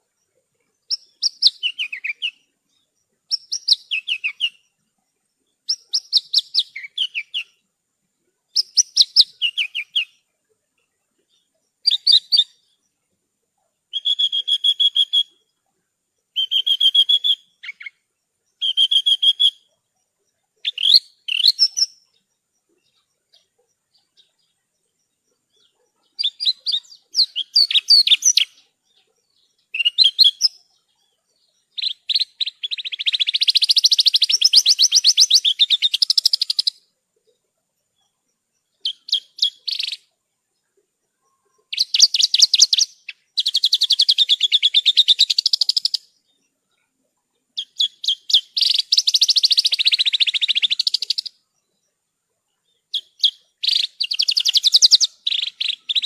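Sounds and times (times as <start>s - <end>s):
bush lark singing: 0.0s - 7.7s, 8.3s - 13.0s, 13.8s - 56.0s.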